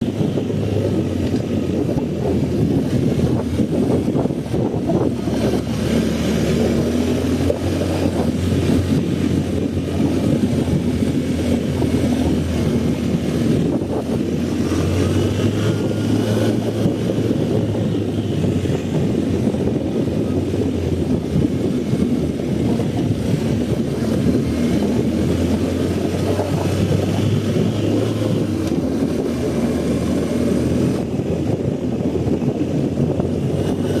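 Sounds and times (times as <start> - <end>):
dense rumbling noise: 0.0 - 34.0
motorcycle engine running: 0.0 - 34.0.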